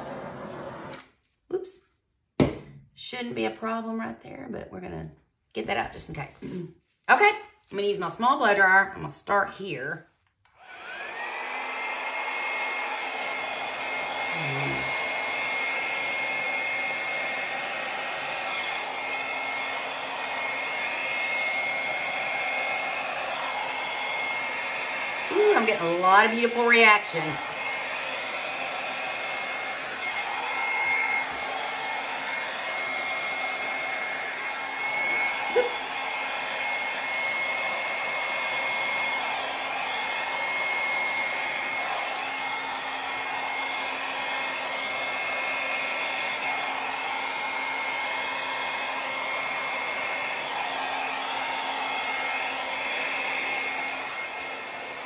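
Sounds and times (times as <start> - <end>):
blow dryer whining: 0.0 - 1.1, 10.5 - 55.0.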